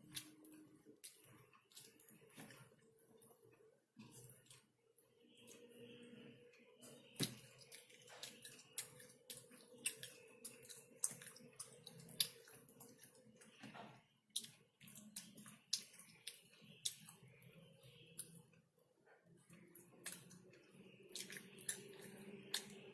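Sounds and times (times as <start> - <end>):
wet chewing and mouth smacks: 0.0 - 6.0, 6.6 - 18.8, 19.4 - 22.9.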